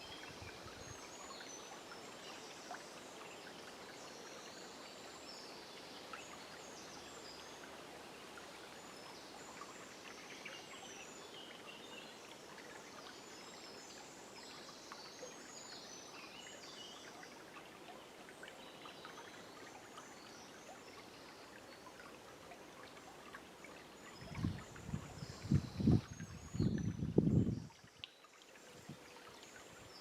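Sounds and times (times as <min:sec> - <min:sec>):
faint river water flowing: 0:00.0 - 0:30.0.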